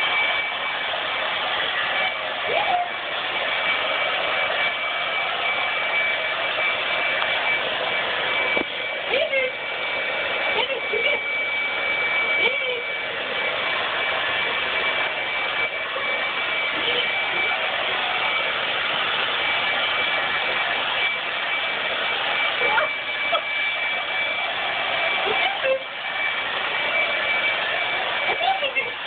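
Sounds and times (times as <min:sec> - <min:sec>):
blow dryer running: 0:00.0 - 0:29.0.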